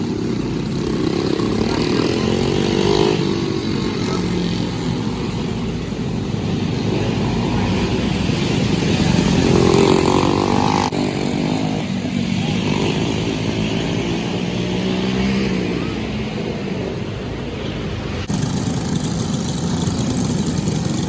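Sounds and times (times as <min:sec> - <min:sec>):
kart engine revving: 0:00.0 - 0:21.0.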